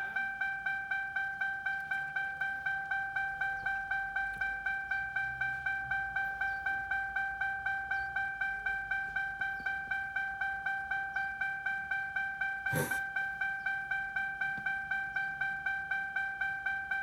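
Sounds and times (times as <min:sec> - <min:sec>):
car warning chime dinging: 0:00.0 - 0:17.0.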